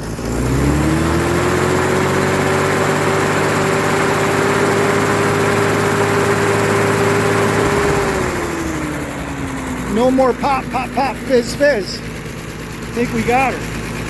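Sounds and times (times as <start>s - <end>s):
forklift engine running: 0.0s - 14.0s.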